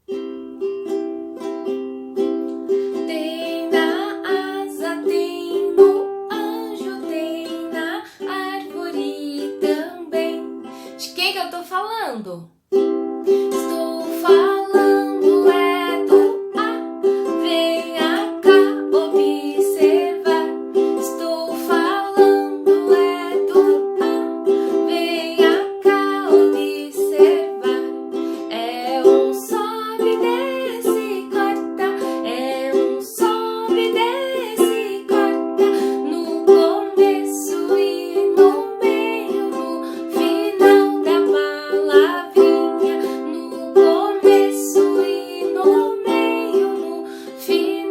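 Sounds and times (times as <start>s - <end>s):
strummed string instrument: 0.0s - 11.1s, 12.7s - 47.9s.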